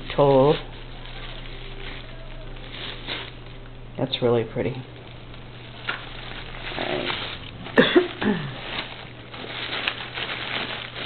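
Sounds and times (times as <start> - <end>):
paper and plastic rustling: 0.0 - 3.8, 5.0 - 11.0.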